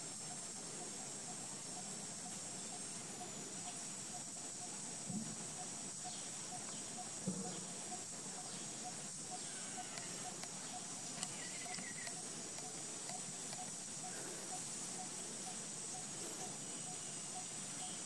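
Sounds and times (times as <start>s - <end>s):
high-pitched insect drone: 0.1s - 18.0s.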